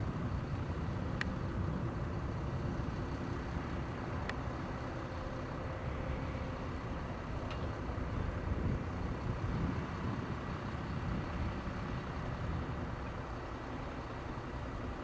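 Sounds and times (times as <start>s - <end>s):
aircraft engine and propeller droning: 0.0s - 15.0s.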